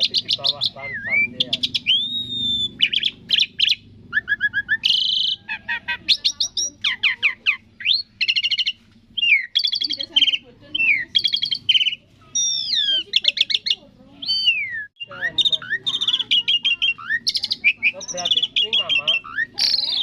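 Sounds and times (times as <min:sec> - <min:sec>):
starling singing: 0:00.0 - 0:20.0.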